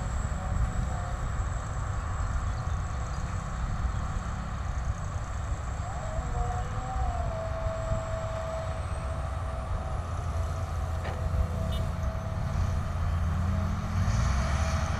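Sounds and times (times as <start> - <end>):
faint steady whine: 0.0 - 14.9
low engine rumble: 0.0 - 14.9.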